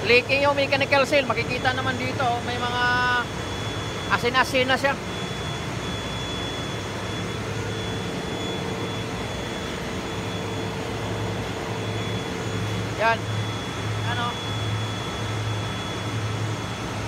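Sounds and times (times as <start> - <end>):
faint high whine: 0.0 - 17.0
ship engine room machinery drone: 0.0 - 17.0.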